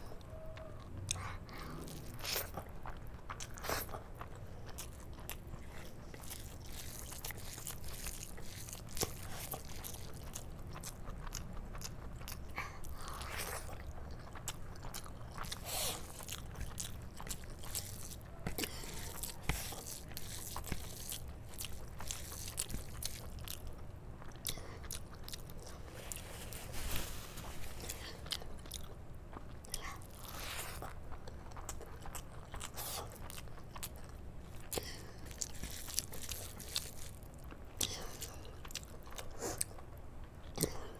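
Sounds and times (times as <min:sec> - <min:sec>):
wet chewing: 0:00.2 - 0:40.9.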